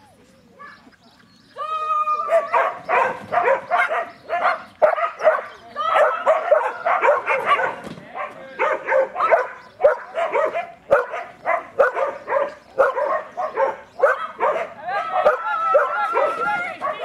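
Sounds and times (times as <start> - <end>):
dog barking and yipping: 2.2 - 17.0.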